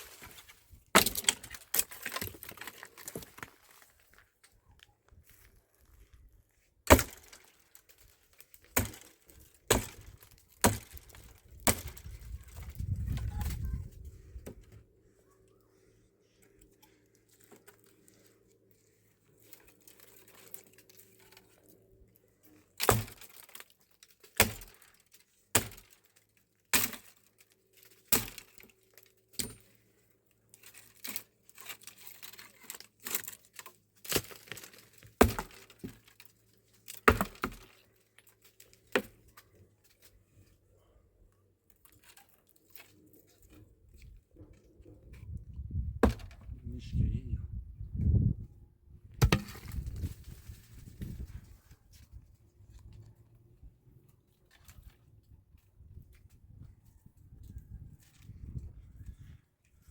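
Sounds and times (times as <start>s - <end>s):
dry firewood cracking: 0.0s - 14.8s, 16.3s - 46.6s, 49.1s - 53.0s.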